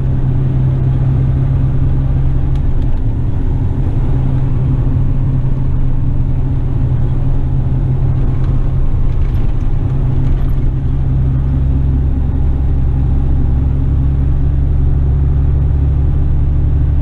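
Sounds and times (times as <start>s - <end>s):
road noise: 0.0s - 17.0s
truck diesel engine droning: 0.0s - 17.0s.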